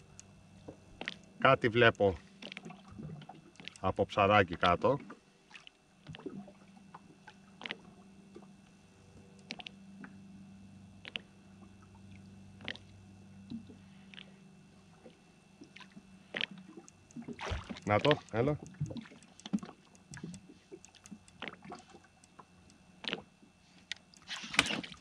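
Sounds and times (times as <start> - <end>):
low steady hum: 0.0 - 25.0
water lapping against boat hull: 0.6 - 8.7, 11.0 - 25.0.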